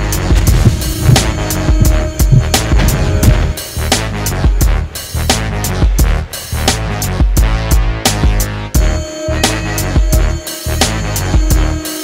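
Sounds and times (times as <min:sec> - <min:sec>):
music with drums and heavy bass: 0:00.0 - 0:12.0.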